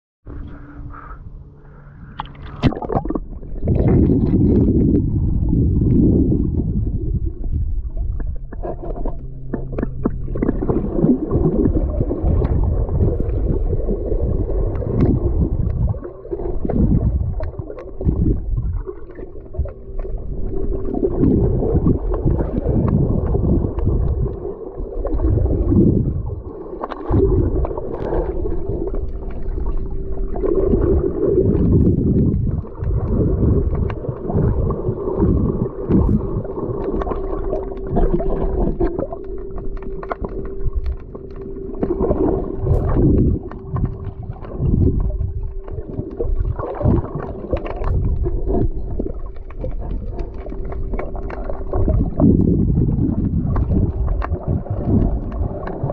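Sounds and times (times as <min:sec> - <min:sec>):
heavy low rumbling: 0:00.2 - 0:55.9
water gurgling and sloshing: 0:00.2 - 0:55.9
faint steady hum: 0:00.3 - 0:55.9.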